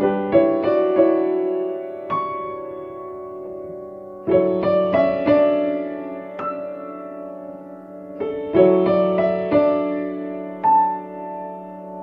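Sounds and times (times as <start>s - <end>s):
solo piano piece: 0.0s - 12.0s.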